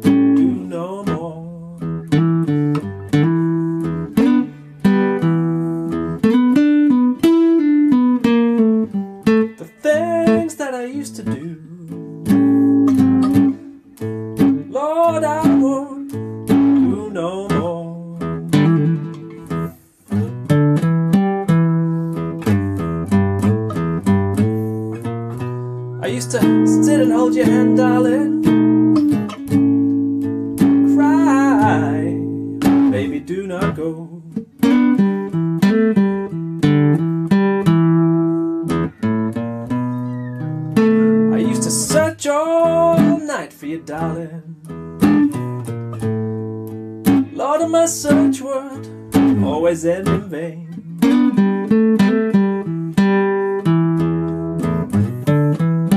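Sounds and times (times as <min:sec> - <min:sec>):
classical guitar playing blues: 0:00.0 - 0:55.9.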